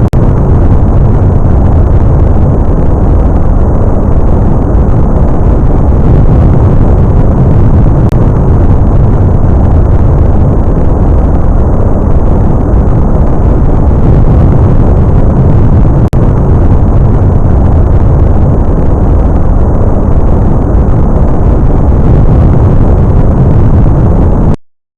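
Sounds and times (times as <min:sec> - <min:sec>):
rocket engine exhaust roar: 0:00.0 - 0:24.6.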